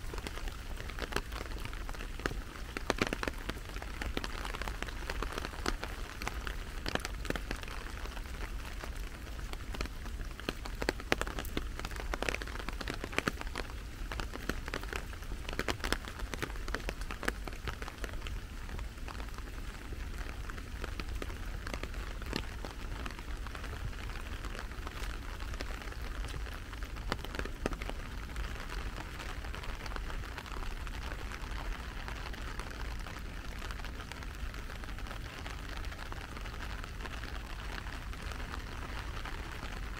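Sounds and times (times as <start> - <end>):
sharp raindrop ticks: 0.0 - 39.9
steady rain falling: 0.0 - 39.9.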